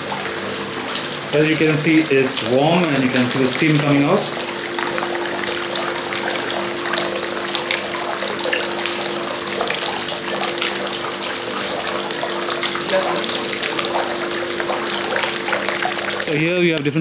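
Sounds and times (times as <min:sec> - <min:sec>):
water running and splashing: 0:00.0 - 0:16.8.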